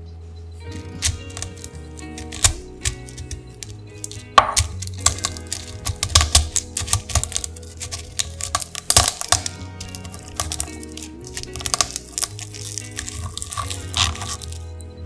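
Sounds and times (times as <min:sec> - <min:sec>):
background music: 0:00.0 - 0:15.0
pods cracking under stone pestle: 0:00.7 - 0:14.7.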